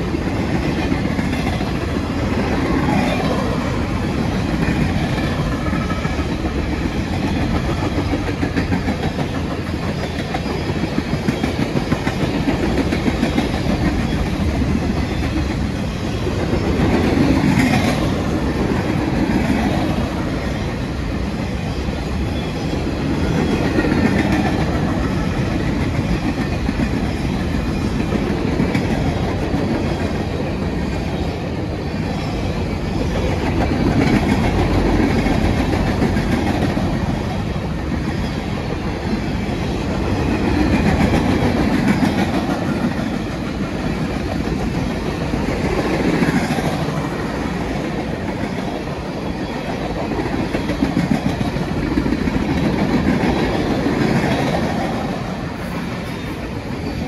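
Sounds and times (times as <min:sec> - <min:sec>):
freight train rumbling past: 0:00.0 - 0:57.0
wheels clacking over rail joints: 0:00.0 - 0:57.0.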